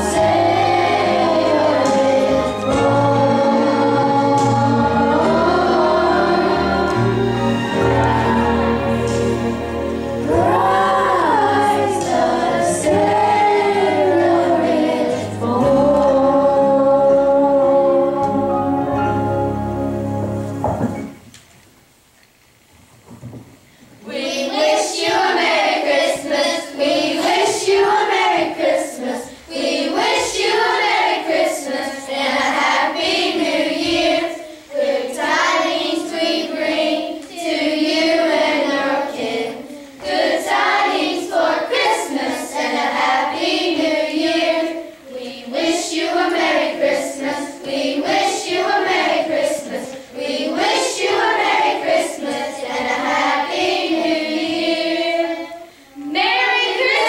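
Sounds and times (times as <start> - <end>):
children singing together: 0.0 - 21.2, 24.0 - 57.0.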